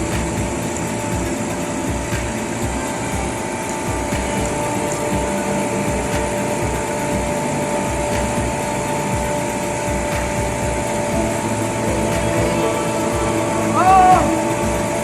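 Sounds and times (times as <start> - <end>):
refrigeration compressor running: 0.0 - 15.0.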